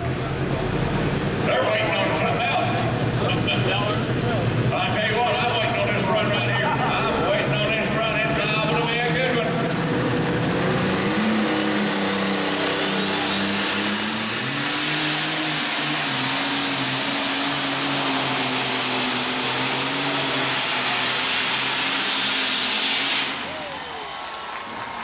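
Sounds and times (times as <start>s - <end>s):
tractor engine at full throttle: 0.0s - 24.4s.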